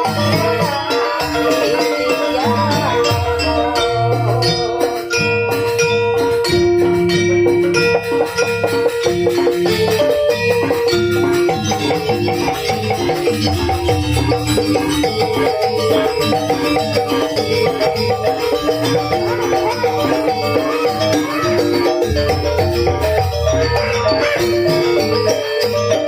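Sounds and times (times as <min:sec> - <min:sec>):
gamelan music: 0:00.0 - 0:26.0.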